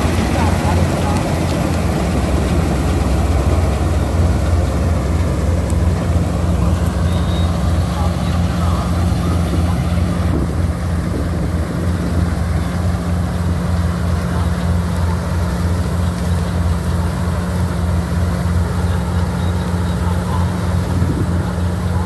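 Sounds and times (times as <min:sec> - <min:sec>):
combine harvester engine droning: 0:00.0 - 0:22.0.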